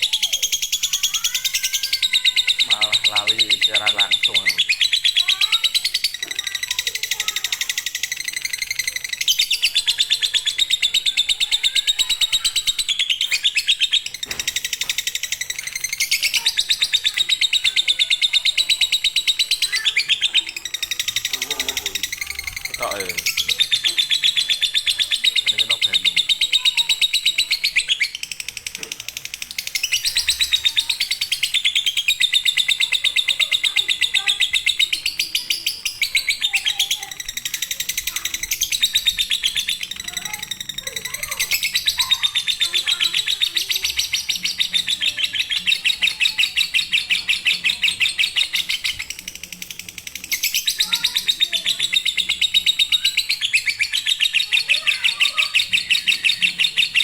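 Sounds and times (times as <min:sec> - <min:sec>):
lovebird chattering trill: 0:00.0 - 0:57.0.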